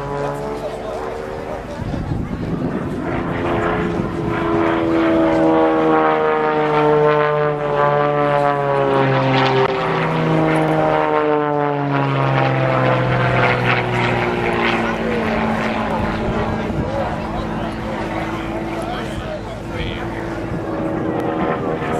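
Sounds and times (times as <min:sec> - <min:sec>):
propeller plane engine drone: 0:00.0 - 0:21.9.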